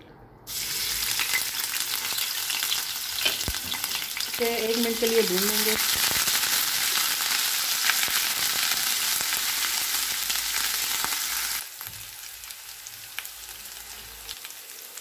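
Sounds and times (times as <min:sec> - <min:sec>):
oil crackling and popping: 0:00.5 - 0:15.0
paste sizzling in hot oil: 0:00.5 - 0:15.0.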